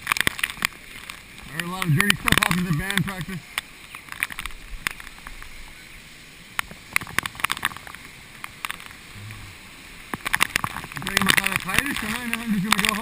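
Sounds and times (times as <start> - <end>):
raindrops tapping on camera housing: 0.0 - 5.6, 6.5 - 13.0
hiss of falling rain: 0.0 - 13.0.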